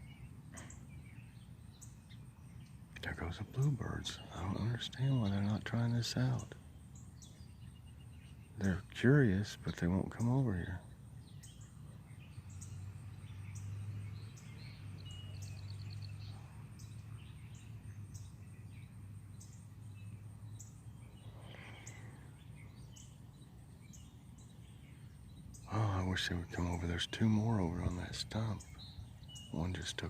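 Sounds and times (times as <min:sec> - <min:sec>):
bird trill: 0:00.0 - 0:30.0
small songbirds chirping: 0:00.0 - 0:30.0
steady low hum: 0:00.0 - 0:30.0.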